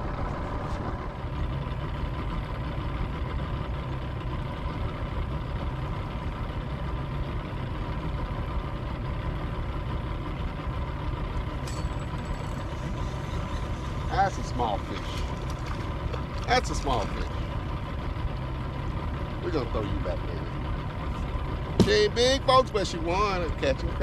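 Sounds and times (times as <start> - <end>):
boat motor idling: 0.0 - 24.0.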